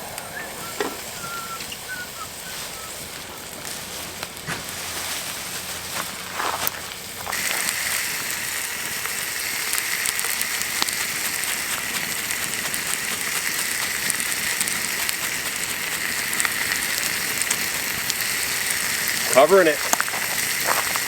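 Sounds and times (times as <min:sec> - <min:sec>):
food sizzling in a hot pan: 0:00.0 - 0:21.0.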